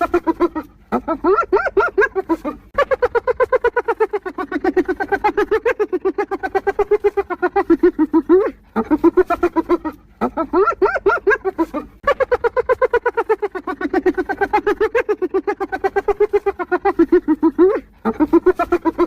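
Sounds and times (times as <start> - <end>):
hyena giggling: 0.0 - 19.0.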